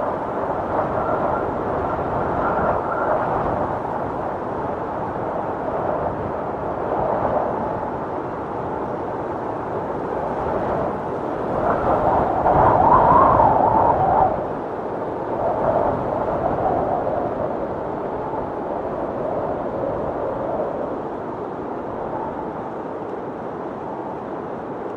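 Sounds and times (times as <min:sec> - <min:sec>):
storm wind blowing: 0:00.0 - 0:24.9.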